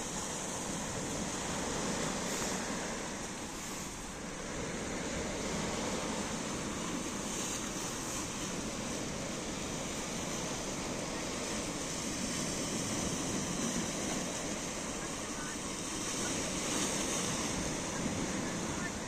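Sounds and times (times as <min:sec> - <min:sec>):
small waves breaking on beach: 0:00.0 - 0:19.0.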